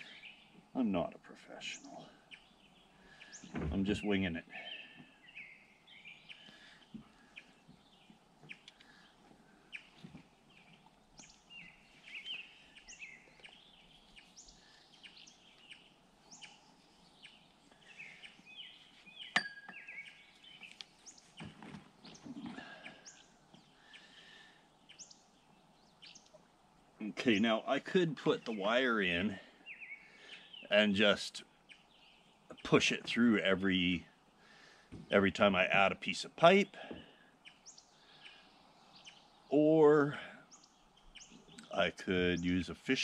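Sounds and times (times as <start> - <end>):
songbirds chirping: 0.0 - 43.0.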